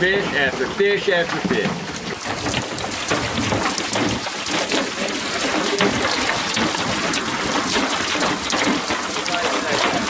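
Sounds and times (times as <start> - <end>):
water and fish splashing into lake: 0.0 - 10.0.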